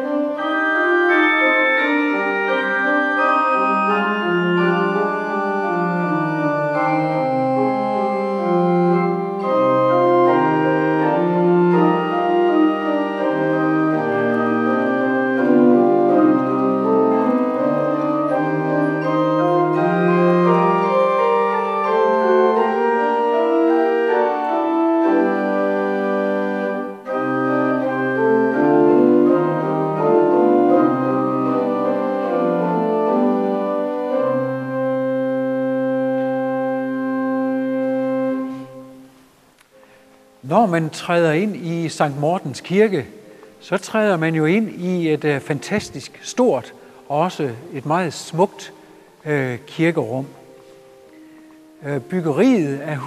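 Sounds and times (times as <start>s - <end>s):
organ music: 0.0s - 53.0s.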